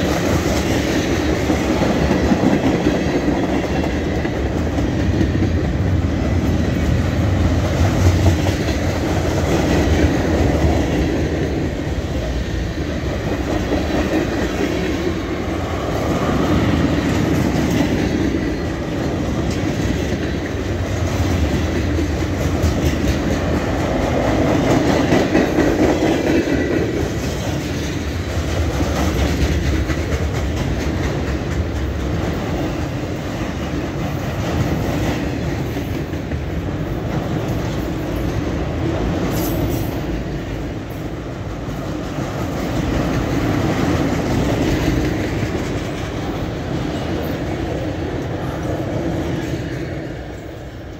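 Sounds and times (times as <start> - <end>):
clickety-clack over rail joints: 0.0 - 50.9
train wheels rumbling on rail: 0.0 - 50.9.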